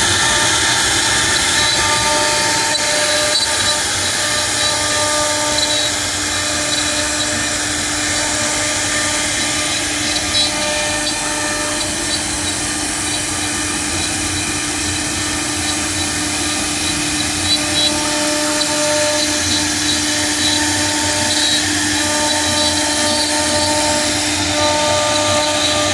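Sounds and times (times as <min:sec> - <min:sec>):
bit cutting material: 0:00.0 - 0:25.9
cnc router spindle whine: 0:00.0 - 0:25.9.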